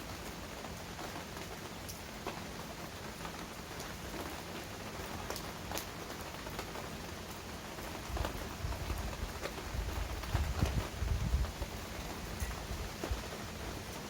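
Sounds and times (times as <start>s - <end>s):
heavy rain falling: 0.0s - 14.0s
raindrops clicking close by: 0.0s - 14.0s.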